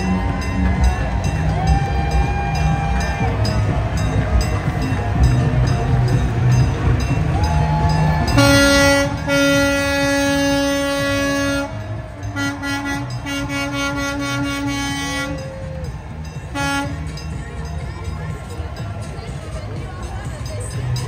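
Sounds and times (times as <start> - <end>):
horn blasts: 0.0 - 17.3
music with a steady beat: 0.0 - 21.0.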